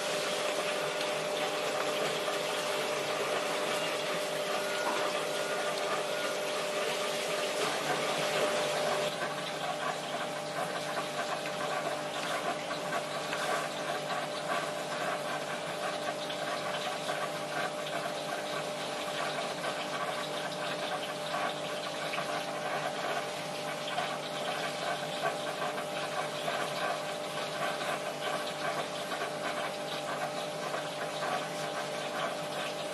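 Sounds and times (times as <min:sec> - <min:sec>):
circulating water rushing: 0:00.0 - 0:32.9
pump hum: 0:00.0 - 0:32.9.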